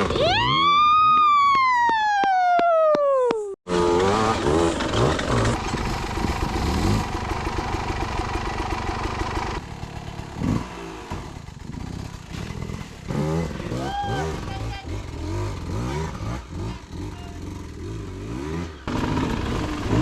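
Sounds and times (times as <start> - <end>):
dirt bike engine revving: 3.7 - 20.0.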